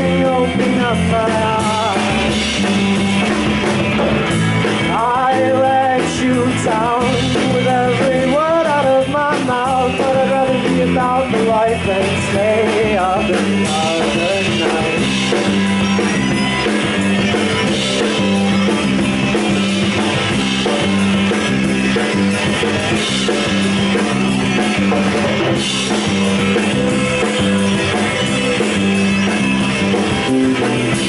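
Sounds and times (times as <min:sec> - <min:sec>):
bass guitar: 0:00.0 - 0:31.0
drum kit: 0:00.0 - 0:31.0
electric guitars: 0:00.0 - 0:31.0.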